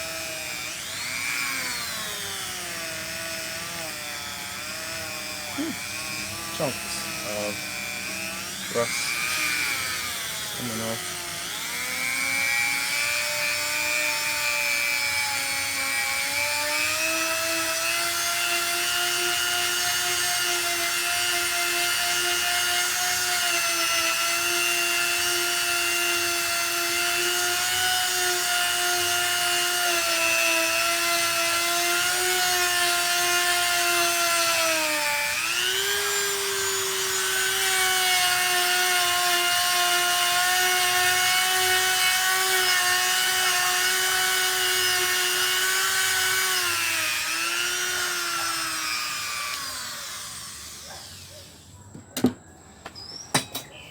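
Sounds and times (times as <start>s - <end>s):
power tool grinding rust: 0.0s - 53.8s.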